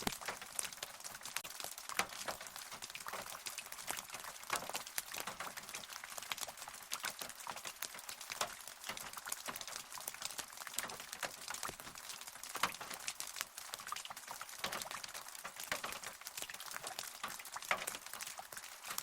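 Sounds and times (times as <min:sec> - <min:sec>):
raindrops tapping: 0:00.0 - 0:19.0
soft hiss of rainfall: 0:00.0 - 0:19.0.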